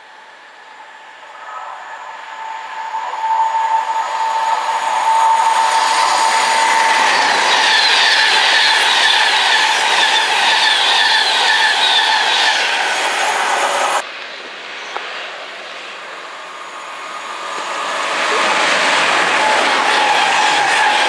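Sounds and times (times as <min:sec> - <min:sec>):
electric train passing: 0:00.0 - 0:21.0
train whine: 0:00.0 - 0:21.0.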